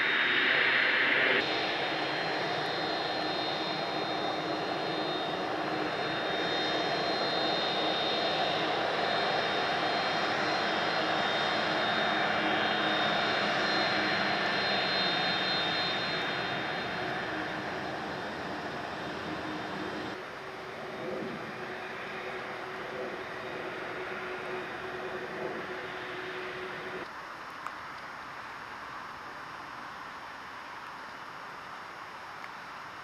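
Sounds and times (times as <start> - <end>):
jet engines with high whine: 0.0 - 33.0.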